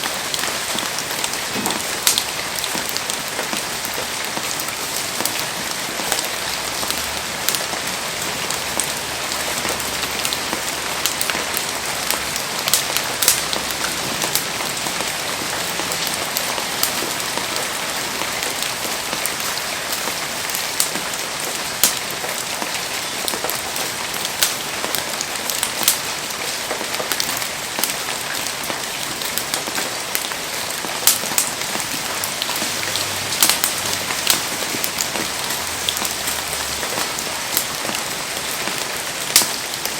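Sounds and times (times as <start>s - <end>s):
heavy rain pouring: 0.0s - 39.9s
raindrops ticking close by: 0.0s - 39.9s.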